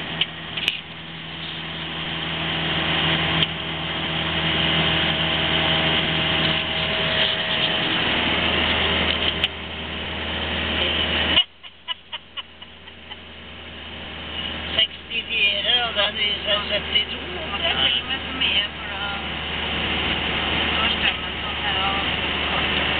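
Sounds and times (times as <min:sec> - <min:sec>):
diesel van engine labouring: 0:00.0 - 0:22.9.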